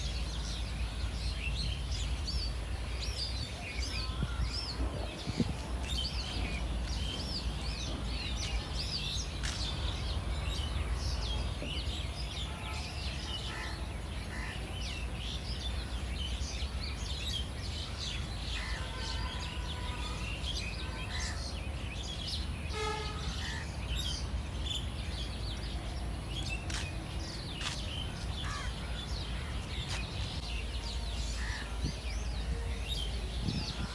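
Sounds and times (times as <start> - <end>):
small birds chirping and singing: 0.0 - 33.9.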